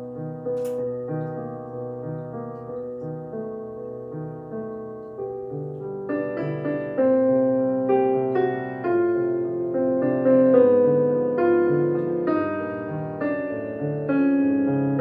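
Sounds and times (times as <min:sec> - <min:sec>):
slow dissonant piano piece: 0:00.0 - 0:15.0.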